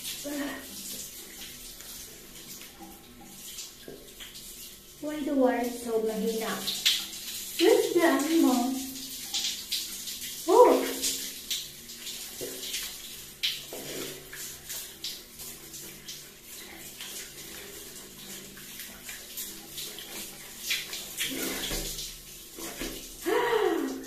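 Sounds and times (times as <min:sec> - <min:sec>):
shower water spraying: 0:00.0 - 0:24.0
water splashing on skin: 0:00.0 - 0:24.0.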